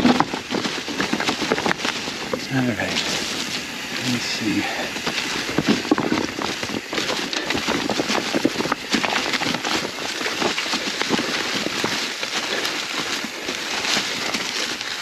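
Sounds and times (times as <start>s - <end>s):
bike clattering over rocks: 0.0s - 15.0s
dry leaves crunching: 0.0s - 15.0s.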